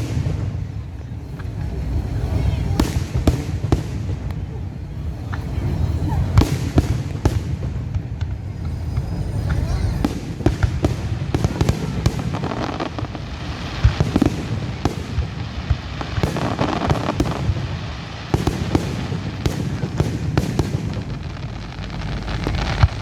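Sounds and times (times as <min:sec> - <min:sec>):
fireworks crackling: 0:00.0 - 0:23.0
fireworks popping and banging: 0:00.0 - 0:23.0
steady low rumble: 0:00.0 - 0:23.0.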